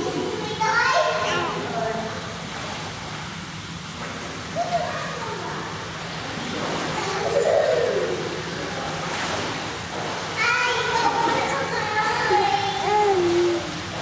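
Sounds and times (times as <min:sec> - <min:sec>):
echoing swimming pool ambience: 0:00.0 - 0:14.0
water splashing: 0:00.0 - 0:14.0.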